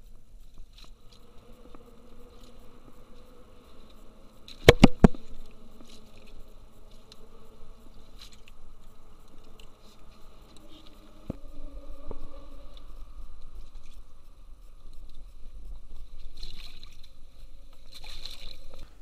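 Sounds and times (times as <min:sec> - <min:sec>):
faint steady buzz: 0:00.0 - 0:19.0.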